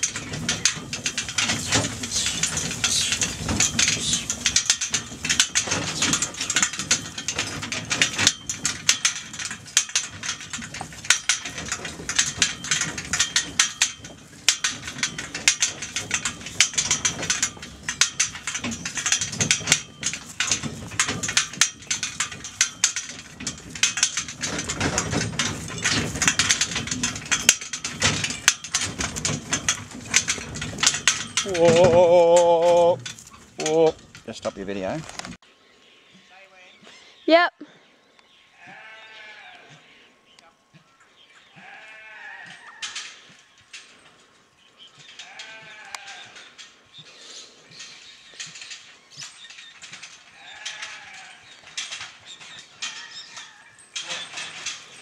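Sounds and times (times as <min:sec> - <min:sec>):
cart harness rattling and clinking: 0:00.0 - 0:35.4, 0:40.7 - 0:55.0.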